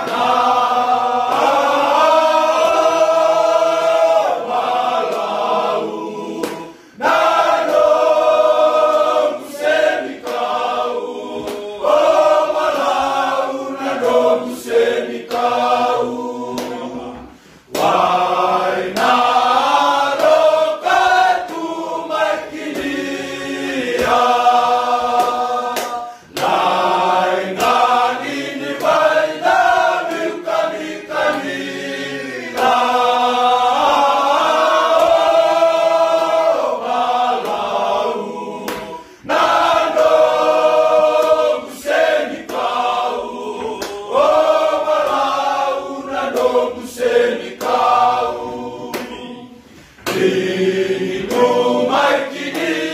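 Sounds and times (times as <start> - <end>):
men singing a cappella: 0.0 - 52.9.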